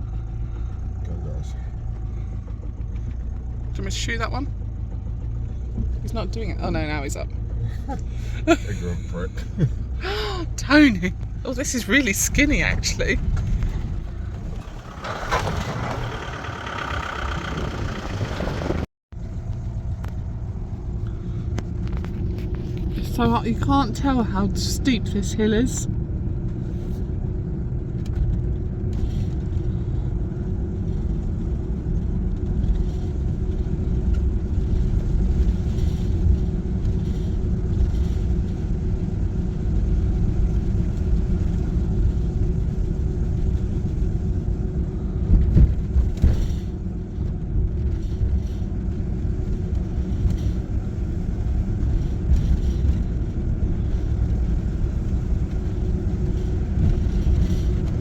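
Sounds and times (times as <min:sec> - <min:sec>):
van engine and road rumble: 0:00.0 - 0:58.0.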